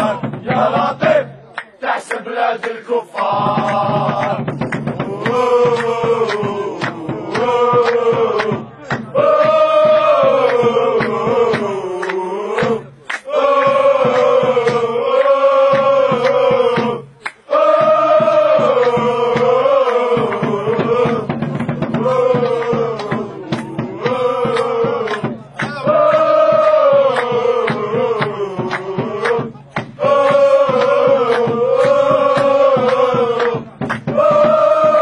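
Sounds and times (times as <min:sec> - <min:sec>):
chanted vocal melody: 0:00.0 - 0:35.0.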